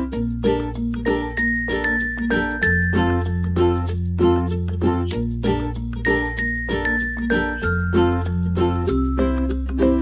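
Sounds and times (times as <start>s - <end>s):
upbeat children's music: 0.0s - 10.0s.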